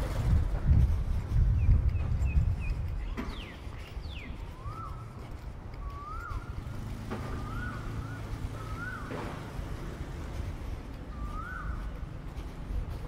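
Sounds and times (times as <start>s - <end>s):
low outdoor rumble: 0.0s - 13.0s
birds calling: 1.2s - 13.0s.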